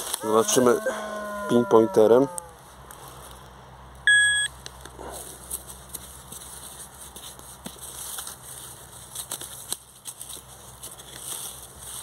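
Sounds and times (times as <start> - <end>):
dry leaves and soil crackling: 0.0 - 12.0.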